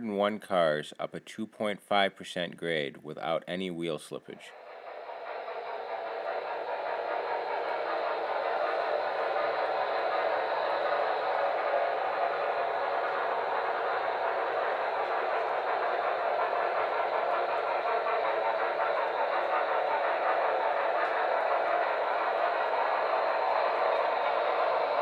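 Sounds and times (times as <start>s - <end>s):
model train wheels rolling on rails: 4.1s - 25.0s.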